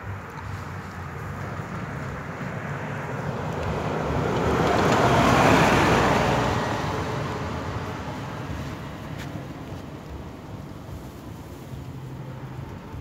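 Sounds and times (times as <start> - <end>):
bus driving past: 0.0 - 13.0.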